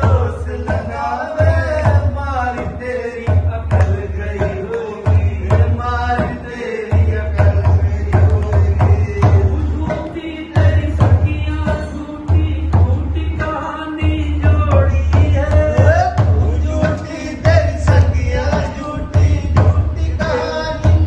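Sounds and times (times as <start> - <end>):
hand drum beating: 0.0 - 21.0
man singing a chant: 0.0 - 21.0.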